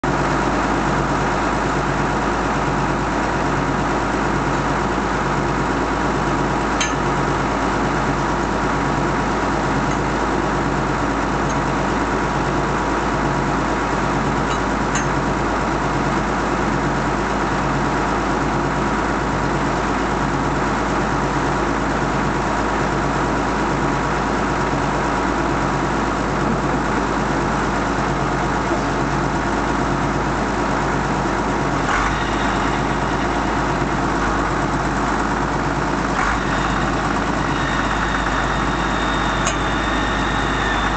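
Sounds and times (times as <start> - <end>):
loader engine idling: 0.0 - 40.9.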